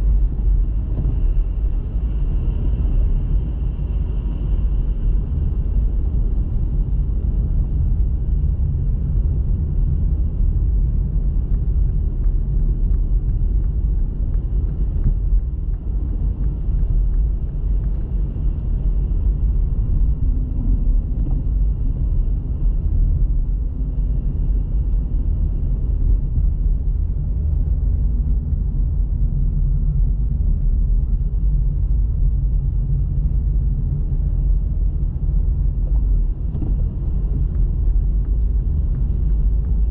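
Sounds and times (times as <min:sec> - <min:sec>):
car driving rumble: 0:05.3 - 0:39.9.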